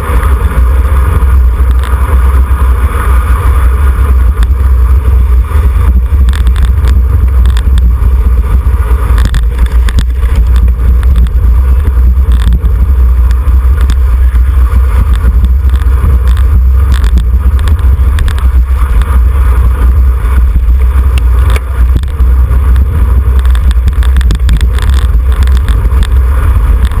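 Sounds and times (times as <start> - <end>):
bicycle clicks and rattles: 0.0 - 27.0
wind buffeting microphone: 0.0 - 27.0.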